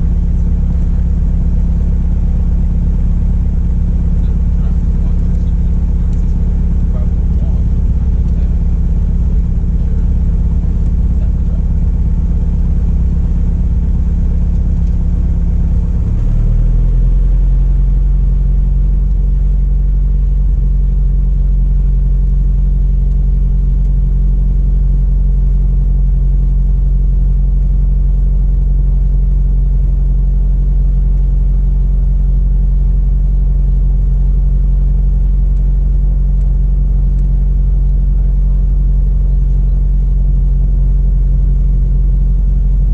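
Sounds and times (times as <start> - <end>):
airplane engine and propeller droning: 0.0 - 42.9.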